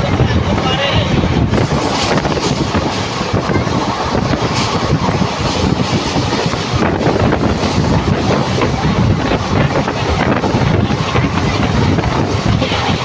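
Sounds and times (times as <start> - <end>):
train rumbling on rails: 0.0 - 13.0
wind buffeting microphone: 0.0 - 13.0.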